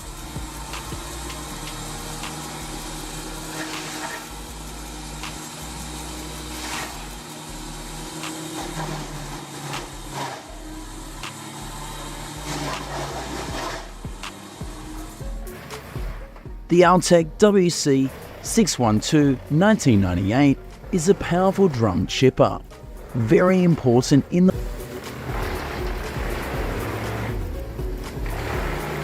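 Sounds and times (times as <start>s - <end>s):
engine droning: 0.0s - 29.0s.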